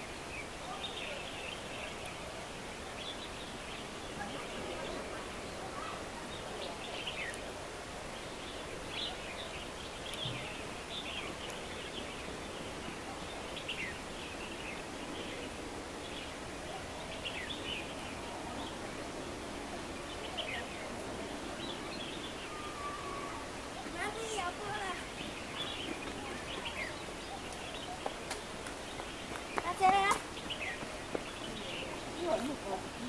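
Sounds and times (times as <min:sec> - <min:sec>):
small birds chirping: 0:00.0 - 0:33.0
steady background noise: 0:00.0 - 0:33.0.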